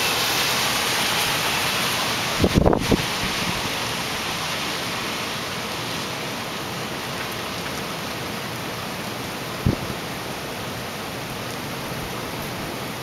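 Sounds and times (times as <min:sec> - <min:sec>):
hurricane wind: 0:00.0 - 0:13.0
rain: 0:00.0 - 0:13.0.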